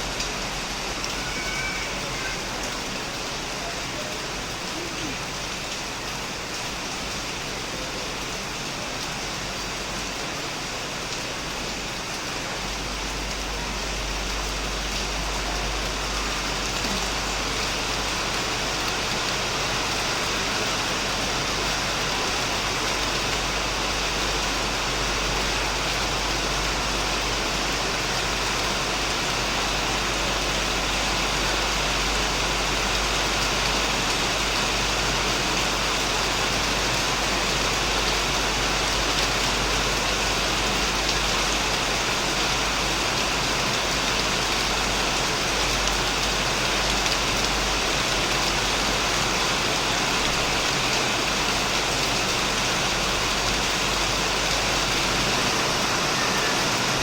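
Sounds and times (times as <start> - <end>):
heavy rain on a shed: 0.0 - 57.0.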